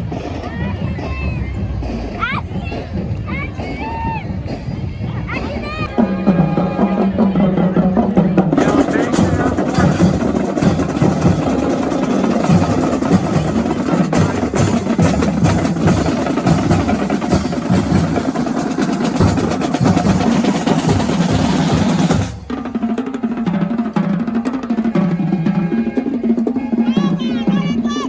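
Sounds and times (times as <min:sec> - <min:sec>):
marching drums playing: 0:00.0 - 0:28.0.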